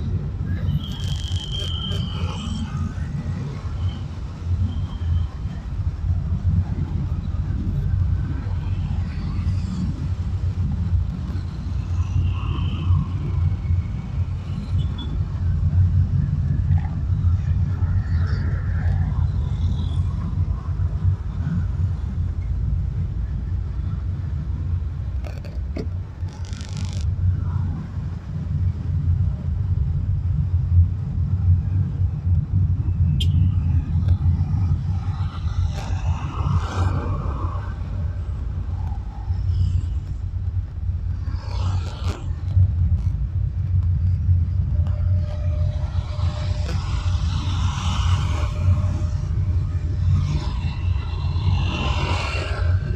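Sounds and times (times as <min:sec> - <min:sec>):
car road and engine rumble: 0:00.0 - 0:52.9
passing vehicles: 0:00.0 - 0:52.9.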